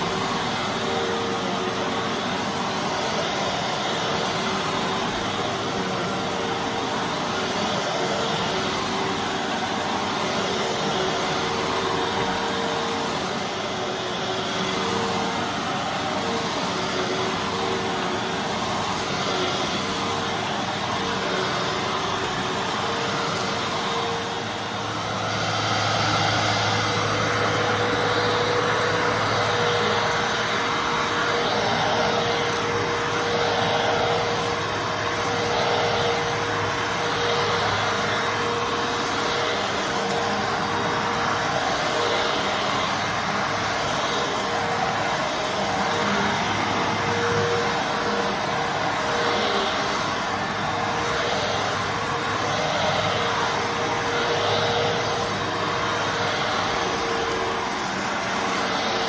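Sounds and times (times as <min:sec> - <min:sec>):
vacuum cleaner whining: 0:00.0 - 0:59.0.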